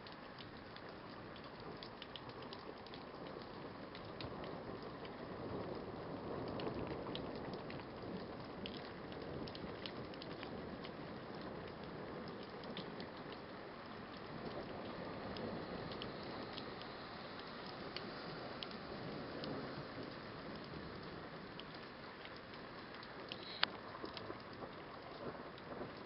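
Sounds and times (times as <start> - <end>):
raindrops tapping a surface: 0.0 - 26.0
steady rain: 0.0 - 26.0.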